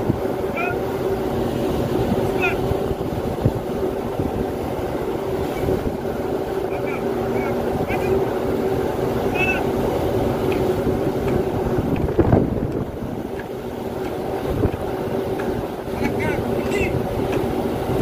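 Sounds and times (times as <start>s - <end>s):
ship engines droning: 0.0s - 18.0s
wind buffeting microphone: 0.0s - 18.0s.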